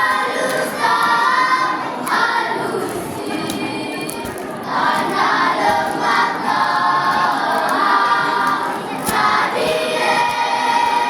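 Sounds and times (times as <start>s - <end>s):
children's choir singing: 0.0s - 11.0s.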